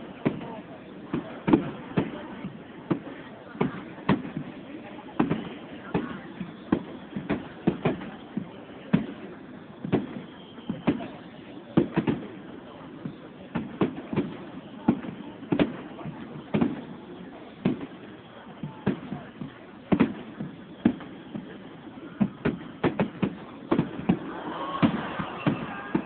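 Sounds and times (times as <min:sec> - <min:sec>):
fireworks bursting with bangs: 0:00.0 - 0:26.0
fireworks crackling: 0:00.0 - 0:26.0.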